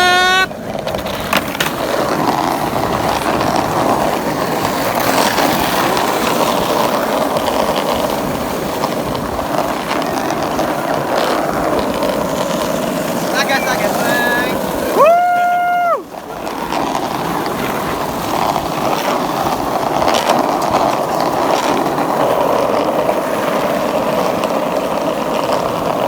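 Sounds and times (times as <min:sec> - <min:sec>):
skateboard wheels rolling on pavement: 0:00.0 - 0:26.0.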